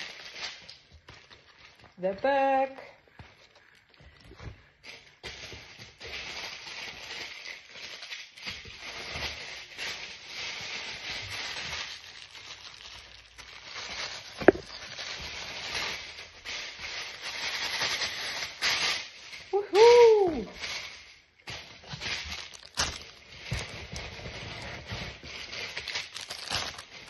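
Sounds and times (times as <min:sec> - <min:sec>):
packaging rustling and crackling: 0:00.0 - 0:02.0, 0:03.0 - 0:27.0.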